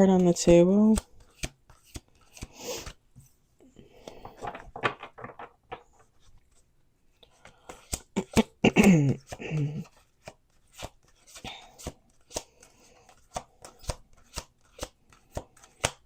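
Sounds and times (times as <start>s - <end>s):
cards being shuffled: 0.0s - 3.0s, 3.9s - 6.6s, 7.2s - 16.0s.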